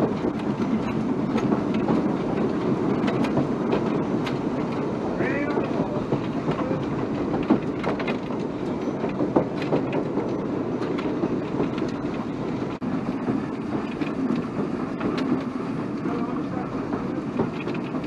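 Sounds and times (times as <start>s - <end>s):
steam locomotive wheels clattering: 0.0s - 18.0s.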